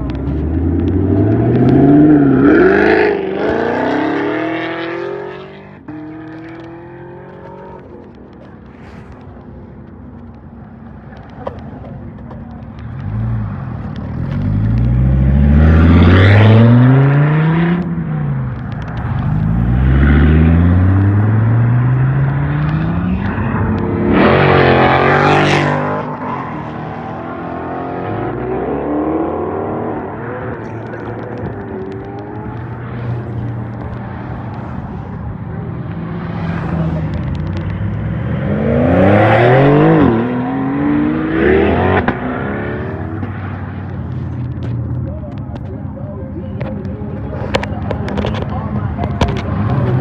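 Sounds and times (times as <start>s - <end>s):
sports car engines revving: 0.0s - 50.0s.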